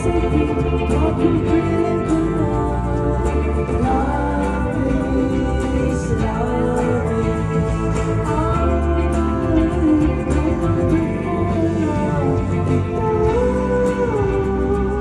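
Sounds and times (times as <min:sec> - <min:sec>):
guitar: 0:00.0 - 0:15.0
live band music: 0:00.0 - 0:15.0
person singing long notes: 0:00.0 - 0:15.0.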